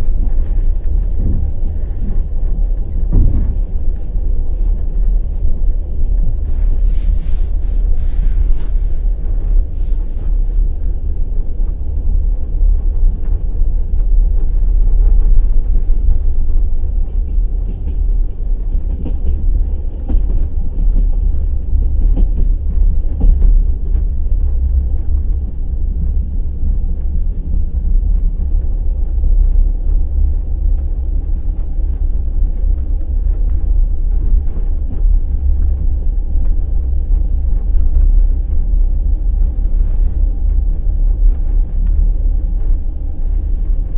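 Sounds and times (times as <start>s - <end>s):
train carriage rumbling: 0.0s - 43.9s
wheels clattering on rails: 0.0s - 43.9s.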